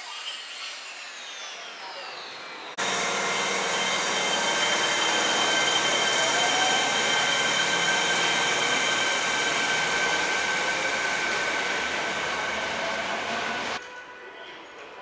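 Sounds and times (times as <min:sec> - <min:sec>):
subway train running with whines: 0:00.2 - 0:13.8.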